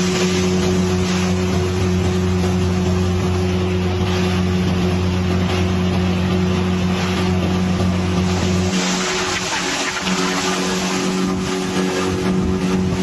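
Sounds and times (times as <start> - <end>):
boat engine drone: 0.0 - 13.0
water and wind hiss: 0.0 - 13.0.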